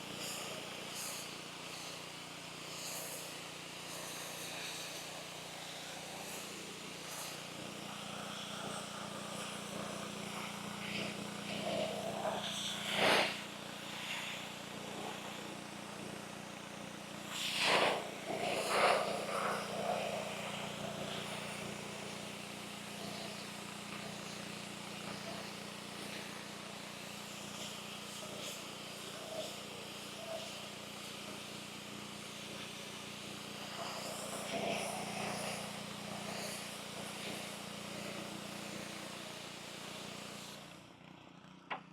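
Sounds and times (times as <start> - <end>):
water jet spraying: 0.0 - 40.6.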